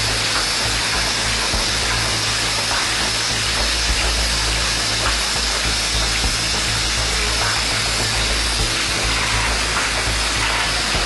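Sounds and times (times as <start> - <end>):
low even hum: 0.0 - 11.0
machine hiss: 0.0 - 11.0.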